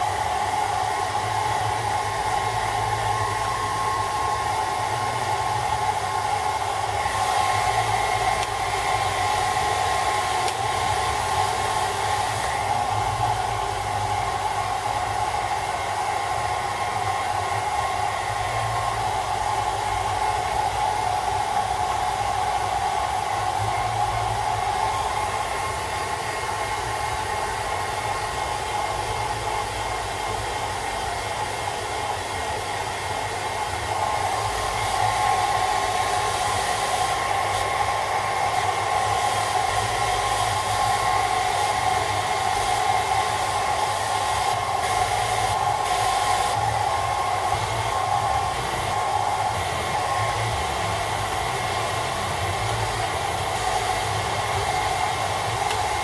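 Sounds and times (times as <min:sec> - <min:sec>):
hairdryer running: 0:00.0 - 0:56.0.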